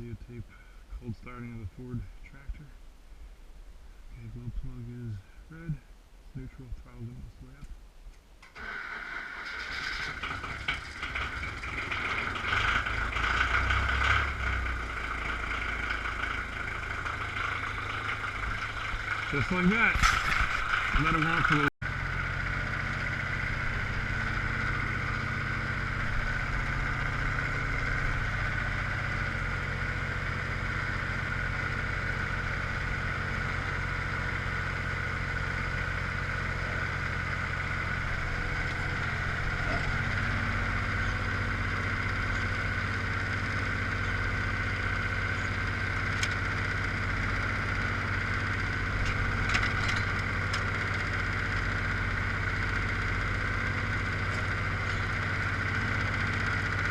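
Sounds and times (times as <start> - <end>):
diesel tractor engine running: 8.6 - 56.9.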